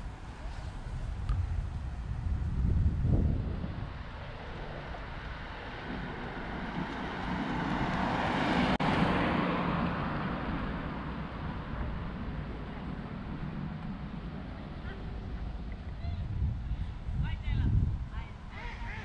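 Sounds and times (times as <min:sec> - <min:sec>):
motor vehicle passing by: 0:00.0 - 0:17.1.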